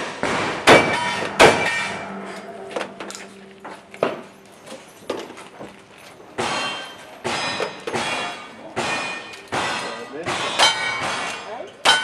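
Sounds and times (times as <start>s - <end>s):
steel target clanging: 0.1s - 5.4s, 6.4s - 12.0s.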